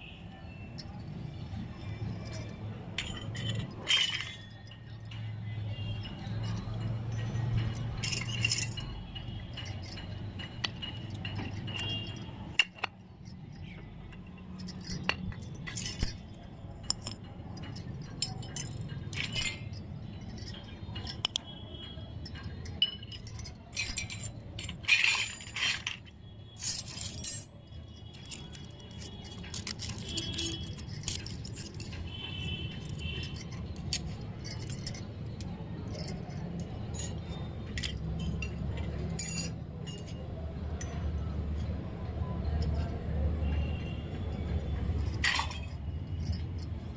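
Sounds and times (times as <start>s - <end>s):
small metal utensils clinking: 0.6s - 46.9s.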